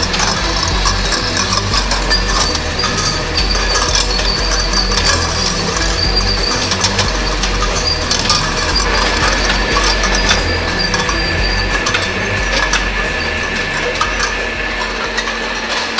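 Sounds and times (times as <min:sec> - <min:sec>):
machinery humming: 0:00.0 - 0:15.9.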